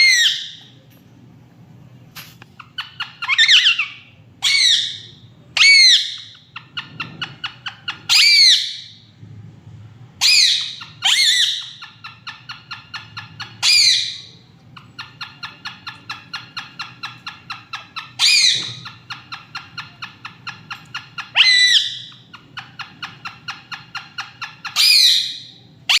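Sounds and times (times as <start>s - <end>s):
parrot squawking: 0.0s - 0.7s, 2.6s - 9.1s, 10.2s - 26.0s
parrot chattering: 2.5s - 8.9s, 10.2s - 26.0s.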